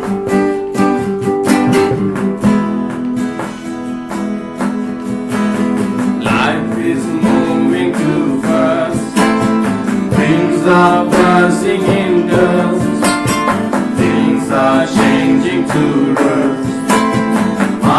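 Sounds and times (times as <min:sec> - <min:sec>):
guitar strumming: 0:00.0 - 0:17.9.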